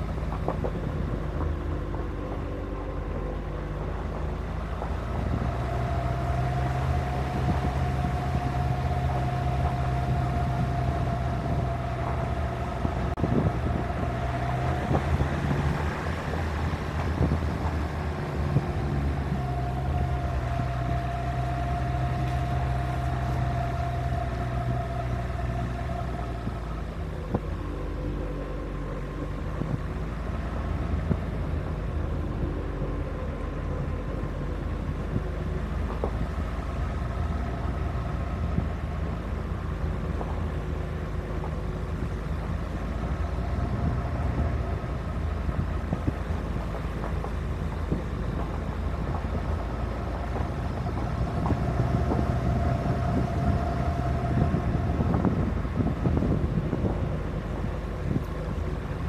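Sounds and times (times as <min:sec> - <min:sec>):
car engine running: 0:00.0 - 0:59.0
tyres rumbling on gravel: 0:00.0 - 0:59.0.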